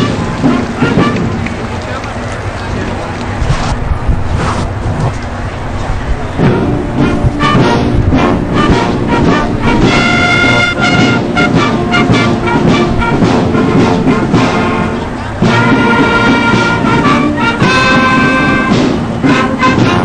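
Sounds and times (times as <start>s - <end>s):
held horn chords: 0.0s - 3.8s, 4.5s - 20.0s
steady drum beats: 0.0s - 20.0s.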